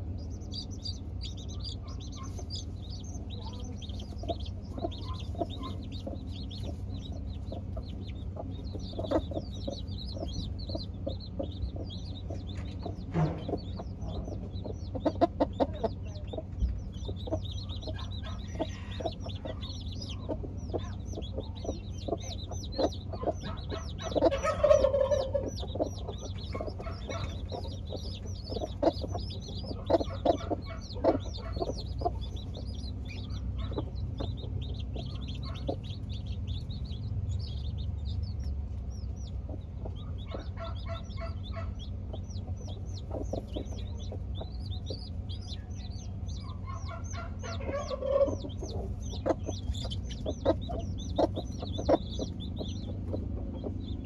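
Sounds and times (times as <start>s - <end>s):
chicks peeping: 0.0s - 54.0s
hens clucking: 0.0s - 54.0s
steady low hum: 0.0s - 54.0s.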